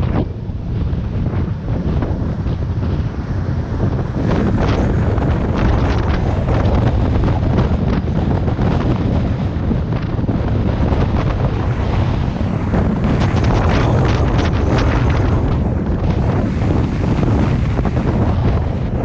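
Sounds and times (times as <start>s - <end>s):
skateboard wheels rolling on asphalt: 0.0s - 19.0s
wind buffeting microphone: 0.0s - 19.0s.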